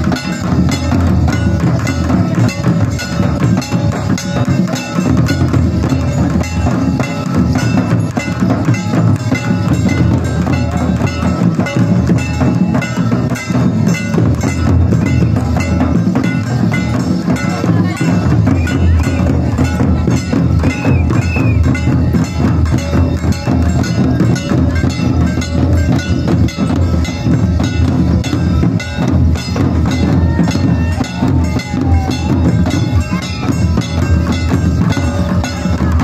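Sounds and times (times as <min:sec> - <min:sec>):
bell-like clinks: 0:00.0 - 0:36.0
fast barrel drumming: 0:00.0 - 0:36.0.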